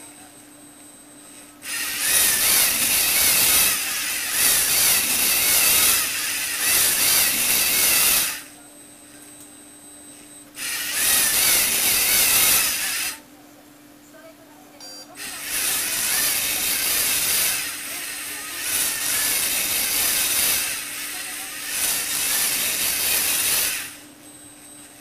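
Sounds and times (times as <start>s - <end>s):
motors whirring and grinding gears: 0.8s - 13.2s, 15.2s - 25.0s.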